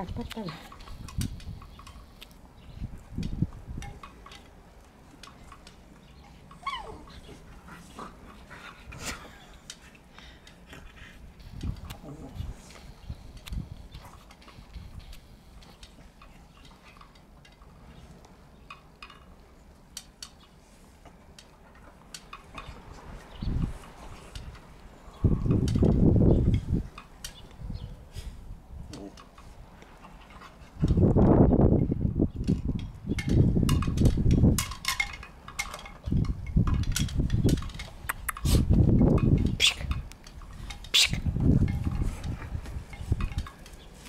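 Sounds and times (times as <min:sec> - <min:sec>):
wind buffeting microphone: 0:00.0 - 0:19.0, 0:21.6 - 0:44.0.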